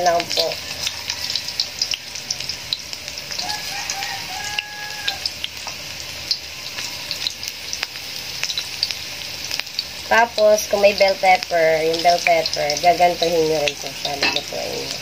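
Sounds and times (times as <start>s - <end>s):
crackles and pops of frying: 0.0s - 15.0s
vegetables sizzling in hot oil: 0.0s - 15.0s.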